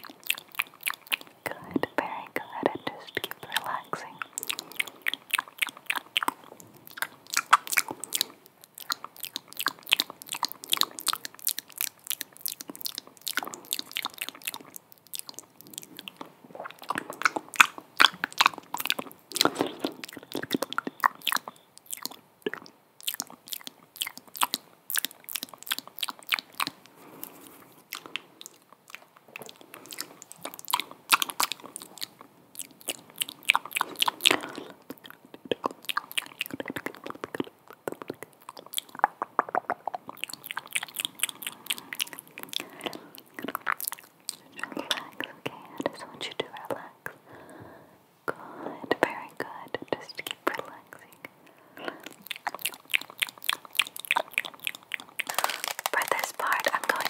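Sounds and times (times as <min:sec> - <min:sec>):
wet mouth clicks and smacks: 0:00.0 - 0:47.2, 0:48.9 - 0:57.0.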